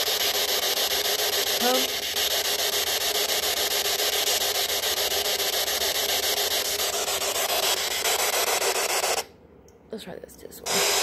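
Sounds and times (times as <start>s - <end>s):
pulsing radio static: 0.0s - 9.2s, 10.7s - 11.0s.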